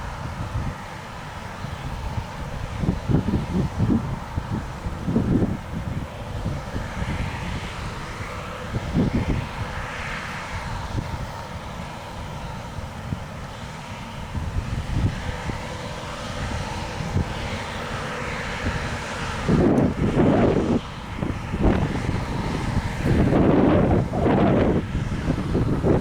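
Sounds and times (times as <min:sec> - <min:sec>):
combine harvester drone: 0:00.0 - 0:26.0
wind buffeting microphone: 0:00.0 - 0:26.0.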